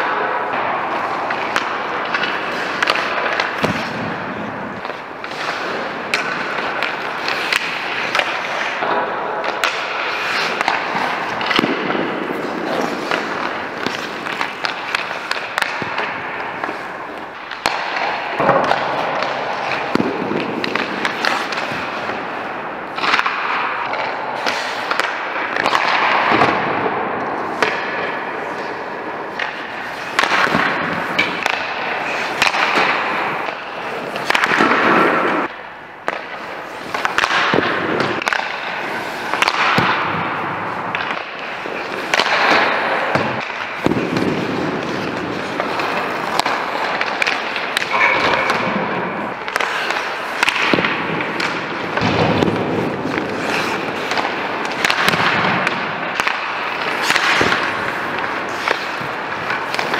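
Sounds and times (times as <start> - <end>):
pucks cracking off sticks: 0.0 - 59.9
skate blades scraping ice: 0.0 - 59.9.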